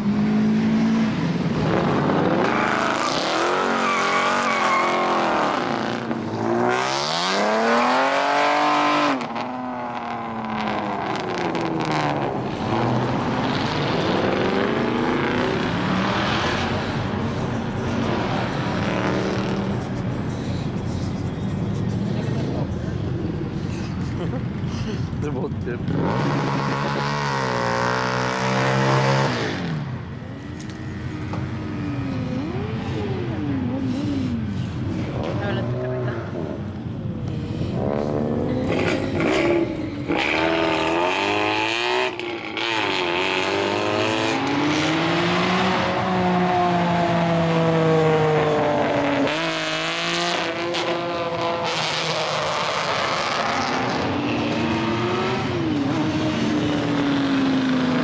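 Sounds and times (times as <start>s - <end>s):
car engine revving: 0.0s - 23.5s, 25.2s - 58.0s
cars accelerating away: 0.0s - 58.0s.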